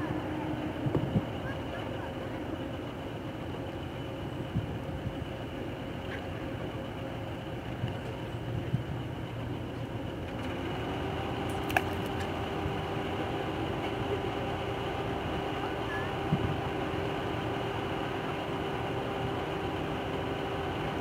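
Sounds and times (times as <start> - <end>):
boat diesel engine rumble: 0.0 - 21.0.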